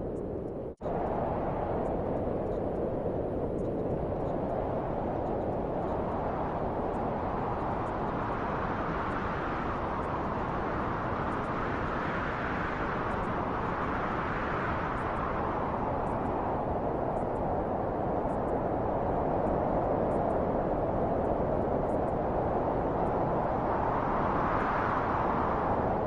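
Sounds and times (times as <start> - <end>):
wind blowing: 0.0 - 26.0.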